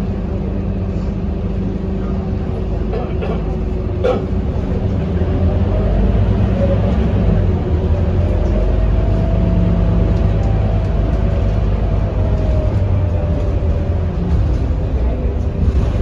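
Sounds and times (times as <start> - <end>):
bus diesel engine rumbling: 0.0 - 16.0
road noise: 0.0 - 16.0.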